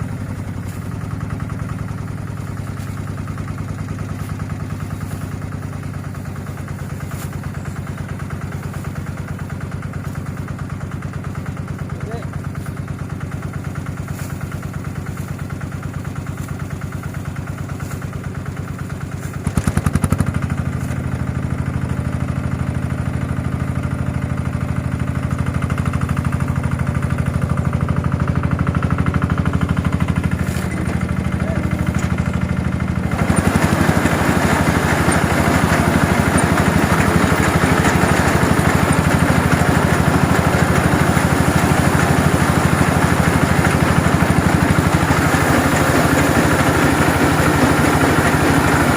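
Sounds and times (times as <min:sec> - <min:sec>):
harvester engine running: 0:00.0 - 0:48.9
rough mechanical noise: 0:00.0 - 0:48.9.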